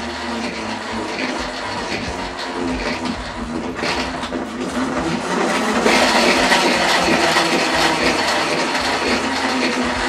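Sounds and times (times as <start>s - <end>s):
salad spinner whirring: 0.0s - 10.0s.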